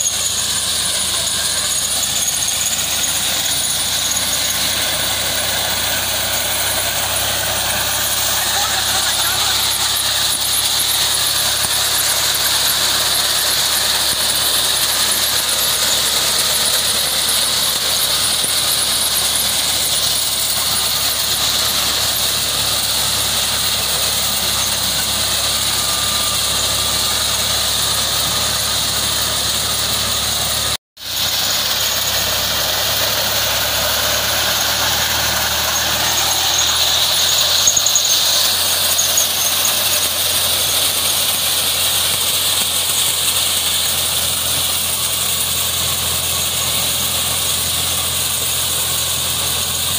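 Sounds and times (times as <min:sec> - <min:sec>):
tractor and reaper mechanical din: 0:00.0 - 0:49.9.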